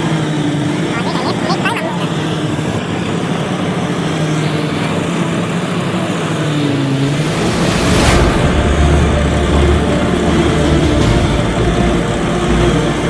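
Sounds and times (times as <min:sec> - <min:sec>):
diesel engine running hard: 0:00.0 - 0:13.0.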